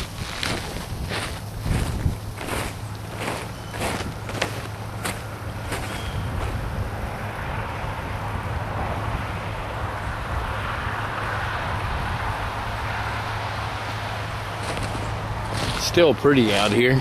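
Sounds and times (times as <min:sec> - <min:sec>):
vehicle hum: 0:00.0 - 0:17.0.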